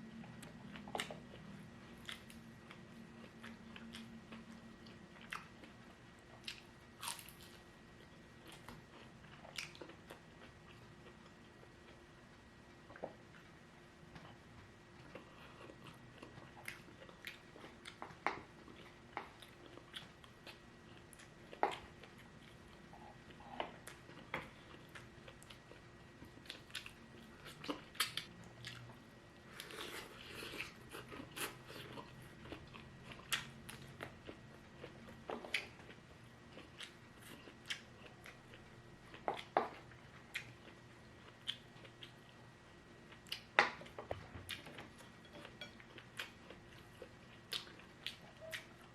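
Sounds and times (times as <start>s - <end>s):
crunching and chewing: 0.1s - 12.0s, 12.8s - 48.9s.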